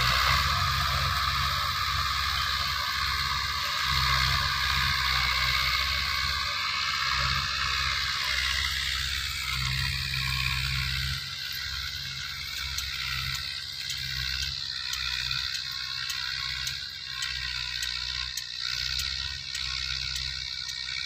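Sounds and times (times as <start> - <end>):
faint high ticking: 0.0 - 21.0
tractor diesel engine droning: 0.0 - 21.0.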